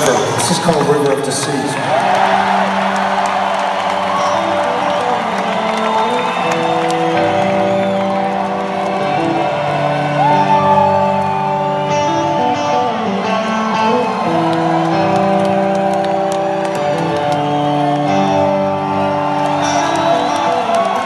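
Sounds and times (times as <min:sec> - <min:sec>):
electric guitars long notes: 0:00.0 - 0:21.0
crowd whooping: 0:01.6 - 0:21.0.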